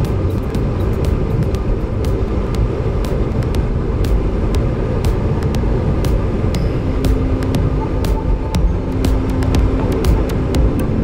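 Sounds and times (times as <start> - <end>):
sharp ticks and rattles: 0.0 - 11.0
turboprop engines rumbling: 0.0 - 11.0.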